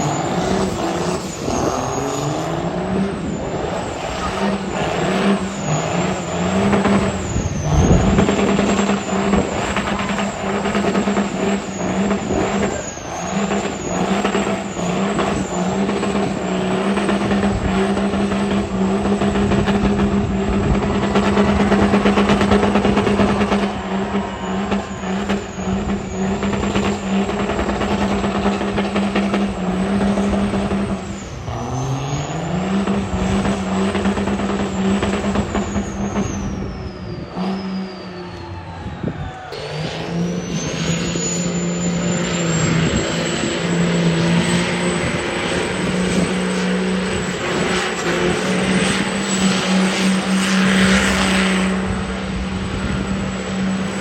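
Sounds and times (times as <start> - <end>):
diesel truck engine revving: 0.0 - 54.0
high turbo whistle: 0.0 - 54.0.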